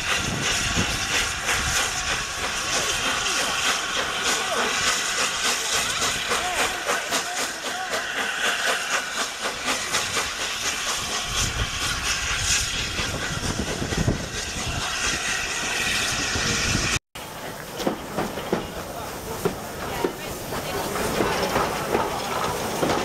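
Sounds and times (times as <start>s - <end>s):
rapid sharp locomotive beats: 0.0s - 17.0s, 17.8s - 23.0s
steam locomotive hissing: 0.0s - 23.0s.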